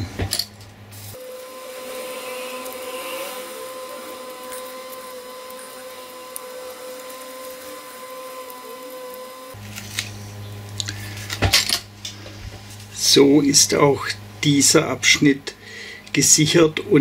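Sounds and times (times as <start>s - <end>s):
small fan whining and hissing: 0.0s - 17.0s.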